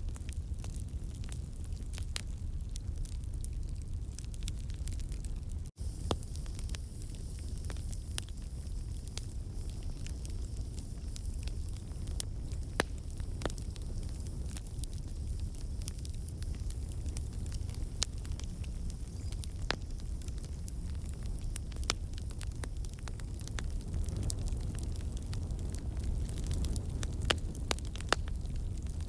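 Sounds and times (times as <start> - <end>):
campfire flame rumble: 0.0 - 29.0
logs crackling and popping: 0.0 - 29.0.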